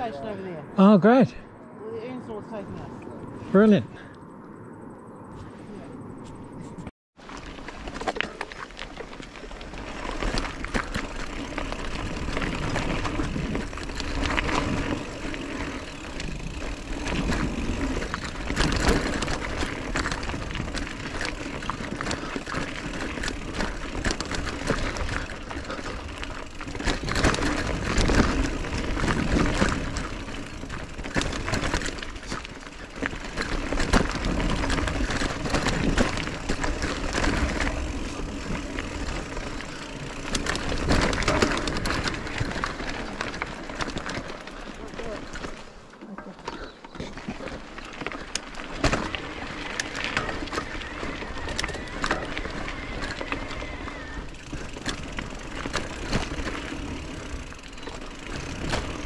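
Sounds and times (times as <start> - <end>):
bike rattling: 0.0 - 59.0
tyres crunching over stones: 7.2 - 59.0.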